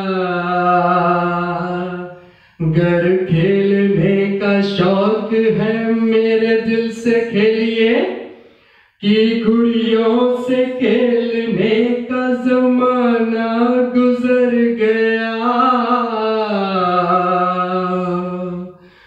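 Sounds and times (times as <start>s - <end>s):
man singing unaccompanied: 0.0s - 8.4s, 9.0s - 19.0s.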